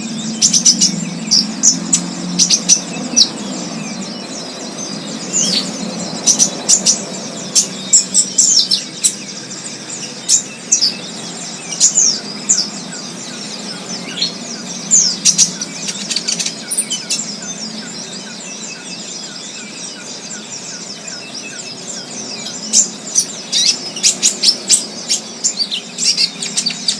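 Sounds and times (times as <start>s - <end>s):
wild birds chirping: 0.0s - 26.9s.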